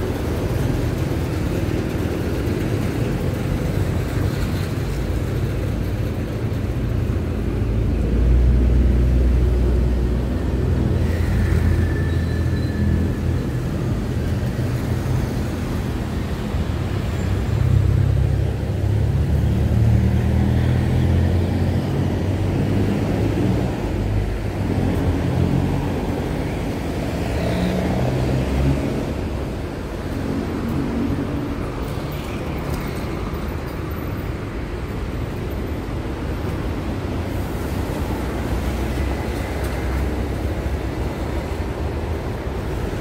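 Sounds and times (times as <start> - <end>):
vehicle engine rumble: 0.0 - 43.0.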